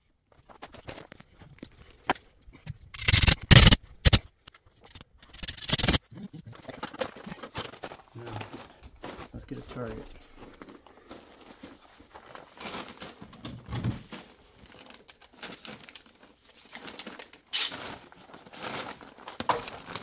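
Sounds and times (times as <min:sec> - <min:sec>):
rustling and crinkling handling noise: 0:00.1 - 0:02.9, 0:06.4 - 0:20.0.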